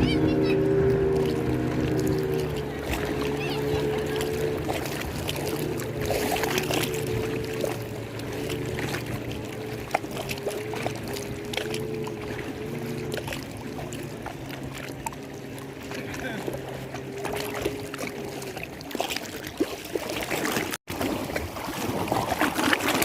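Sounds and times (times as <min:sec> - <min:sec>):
lake water lapping: 0:00.0 - 0:23.0
small splashes: 0:00.0 - 0:23.0.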